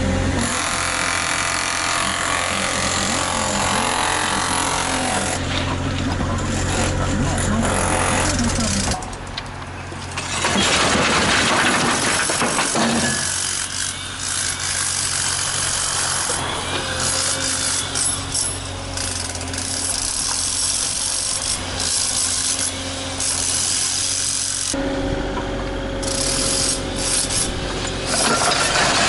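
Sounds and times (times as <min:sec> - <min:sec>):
excavator engine running: 0:00.0 - 0:29.0
rough scraping clatter: 0:03.2 - 0:24.8, 0:26.0 - 0:29.0.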